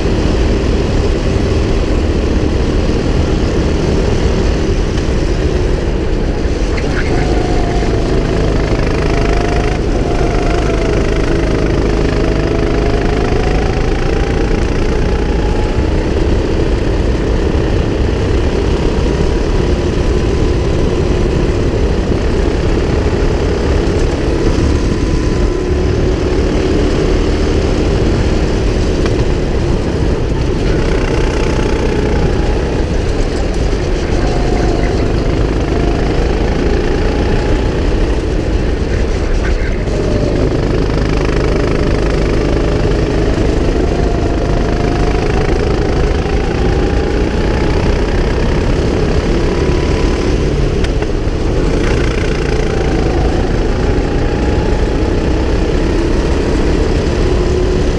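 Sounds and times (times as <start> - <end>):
go-kart engine racing: 0.0 - 57.9
low wind rumble: 0.0 - 57.9.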